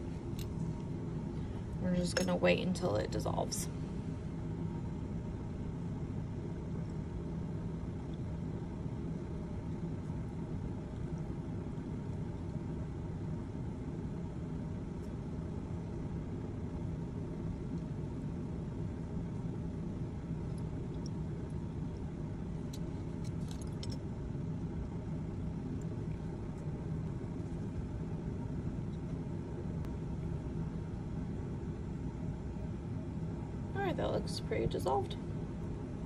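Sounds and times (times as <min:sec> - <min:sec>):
ventilation rumble and hum: 0:00.0 - 0:36.0.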